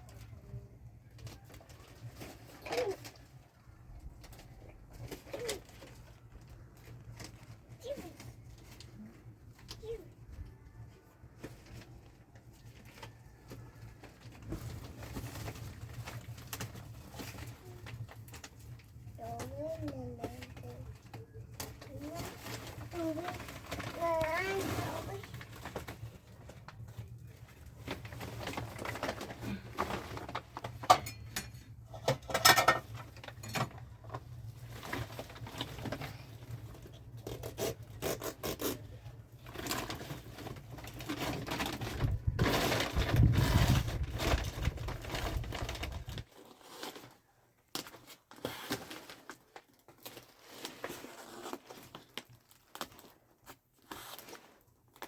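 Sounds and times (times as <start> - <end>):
scraping and rustling handling noise: 0.0 - 55.0.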